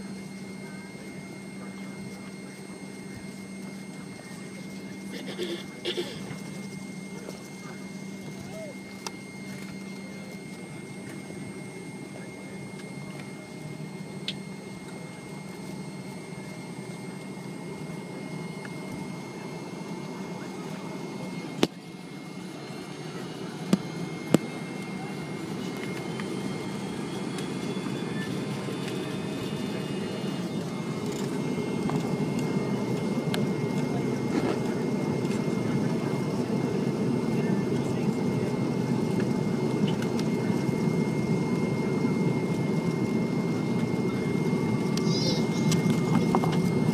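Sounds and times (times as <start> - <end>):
jet engines spooling up: 2.0 - 46.9.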